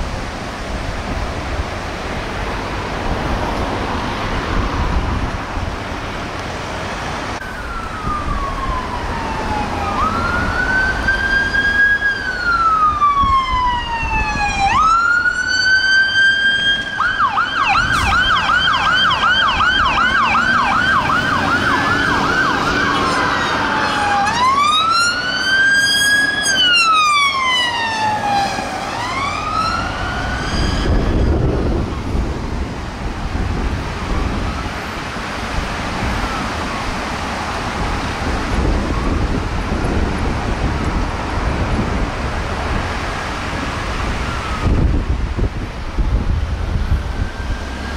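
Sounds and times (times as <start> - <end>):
engine and traffic noise: 0.0 - 47.9
fire engine siren wailing: 7.2 - 47.9.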